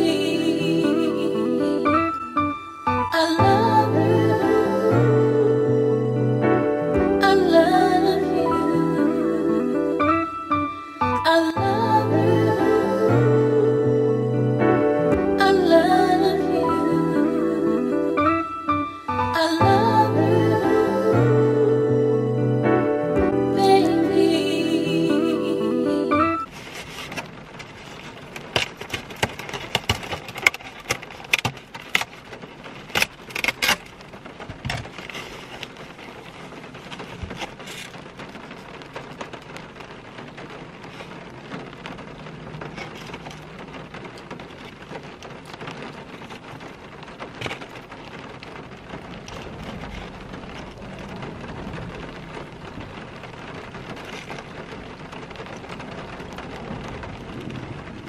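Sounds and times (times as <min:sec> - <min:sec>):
rain falling on a car: 0:00.0 - 0:58.0.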